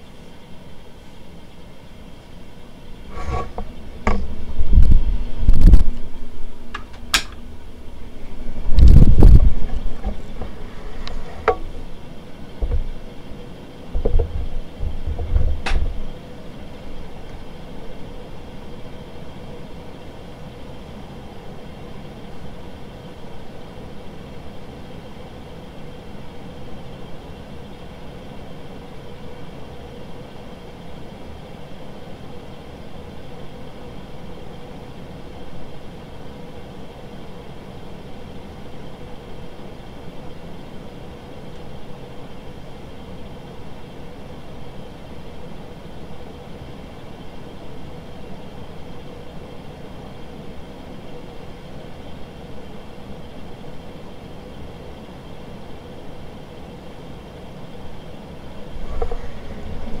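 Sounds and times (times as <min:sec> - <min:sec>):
fan blades whooshing: 0:00.0 - 0:35.8, 0:36.7 - 1:00.0
ceiling fan motor hum: 0:00.0 - 1:00.0.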